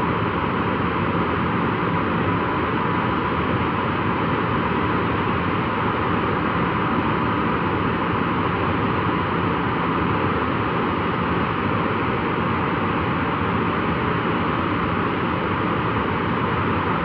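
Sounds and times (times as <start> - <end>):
faint engine whine: 0.0 - 17.0.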